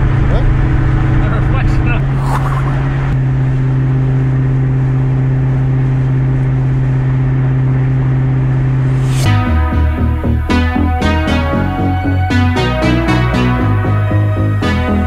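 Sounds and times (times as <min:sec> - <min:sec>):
car engine droning at cruise: 0:00.0 - 0:15.0.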